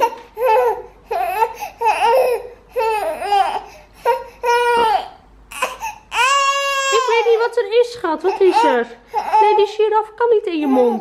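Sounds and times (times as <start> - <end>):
baby screaming and crying: 0.0 - 7.5, 8.2 - 9.8.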